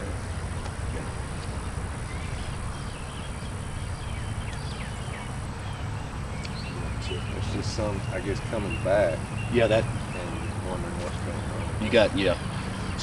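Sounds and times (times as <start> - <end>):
bird-like chirps: 0.0 - 13.0.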